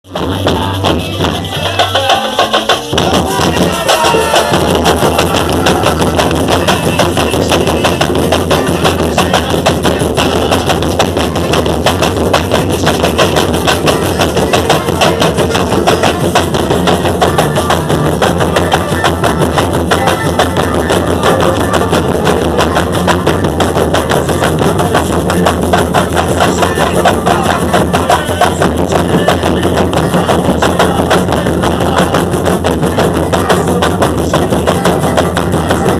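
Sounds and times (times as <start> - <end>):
percussion band drumming: 0.0 - 35.9.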